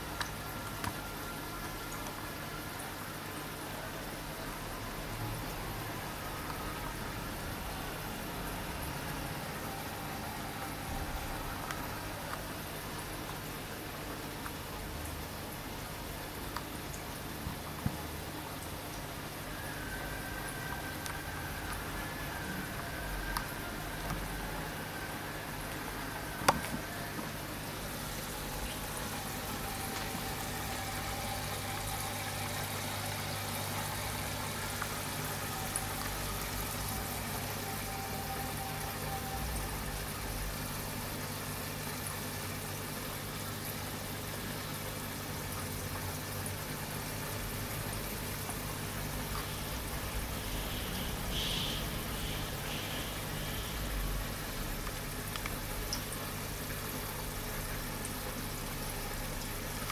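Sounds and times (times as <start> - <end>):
aquarium filter hum: 0.0 - 59.9.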